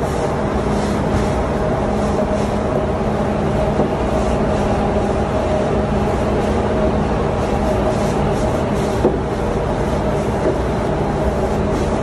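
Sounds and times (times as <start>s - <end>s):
engine-room machinery droning: 0.0s - 12.0s.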